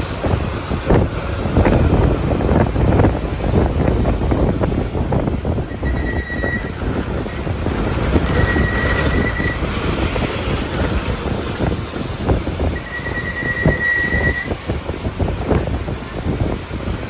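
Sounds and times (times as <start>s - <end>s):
vehicle rumbling on rough road: 0.0s - 17.0s.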